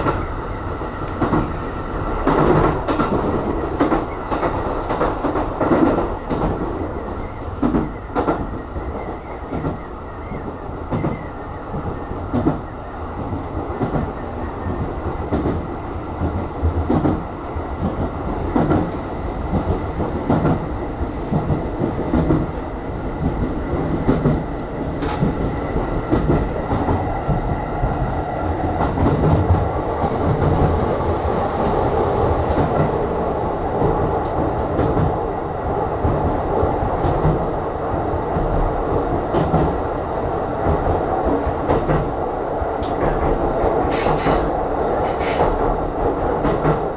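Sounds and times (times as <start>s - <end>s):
train running noise: 0.0s - 46.9s.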